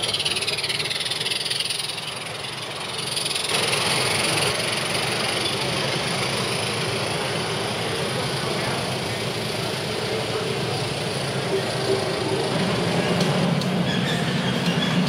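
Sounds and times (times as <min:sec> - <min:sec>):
model steam locomotive hissing: 0:00.0 - 0:15.0.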